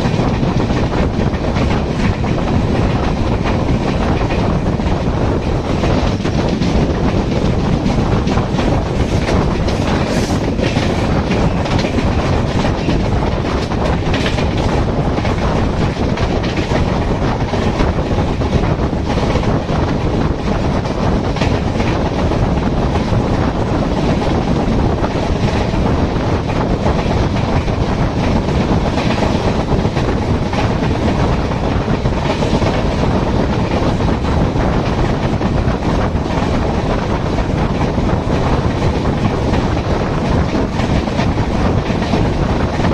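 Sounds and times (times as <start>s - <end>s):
clacks over rail joints: 0.0s - 42.9s
train wheels rumbling on rails: 0.0s - 42.9s.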